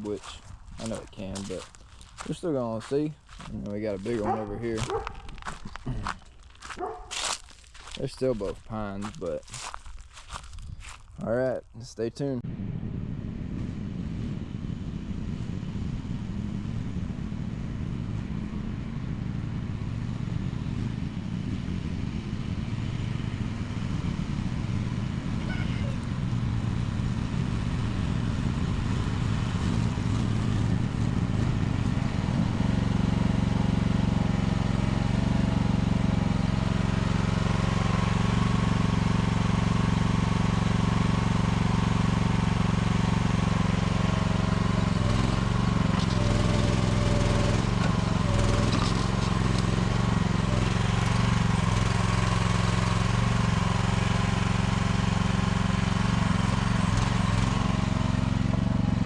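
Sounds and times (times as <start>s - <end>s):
mini excavator engine running: 0.0s - 11.5s, 20.0s - 59.0s.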